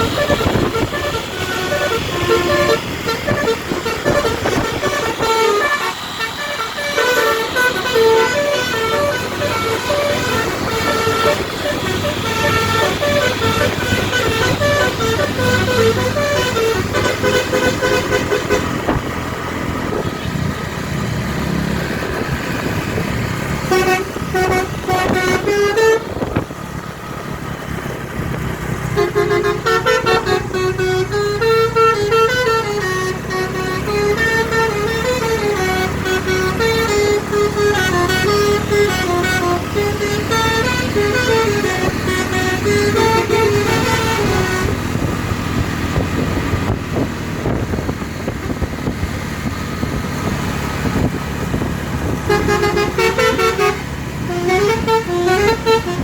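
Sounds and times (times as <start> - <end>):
bus engine and road noise: 0.0 - 56.0
bus musical horn melody: 0.0 - 56.0.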